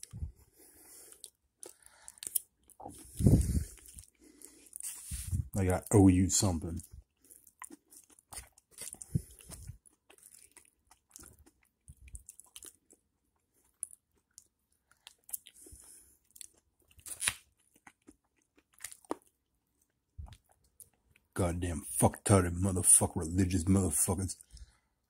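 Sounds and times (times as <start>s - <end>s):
man chewing and crunching: 0.0s - 21.4s.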